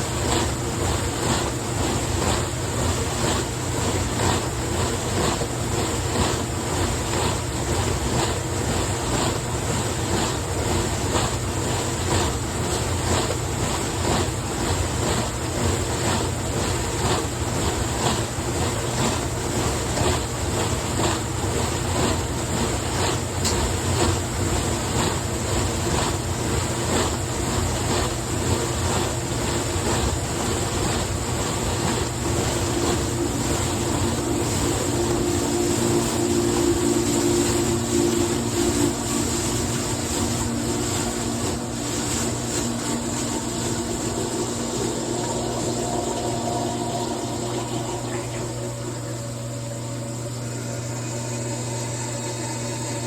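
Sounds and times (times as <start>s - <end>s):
dishwasher motor humming: 0.0s - 53.0s
steady humming tone: 0.0s - 53.0s
water spraying inside dishwasher: 0.0s - 53.0s.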